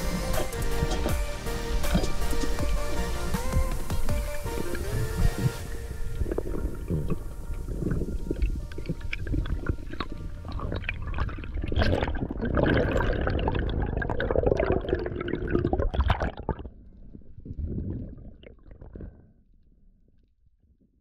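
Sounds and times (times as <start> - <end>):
underwater gurgling and sloshing: 0.0 - 20.5.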